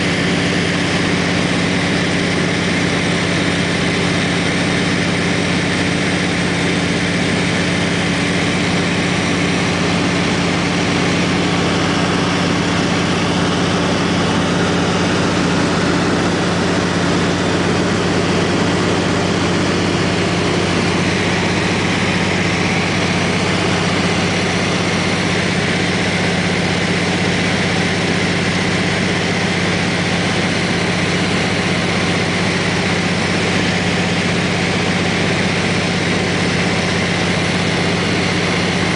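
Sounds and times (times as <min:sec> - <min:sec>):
plane engine humming in cabin: 0:00.0 - 0:38.9.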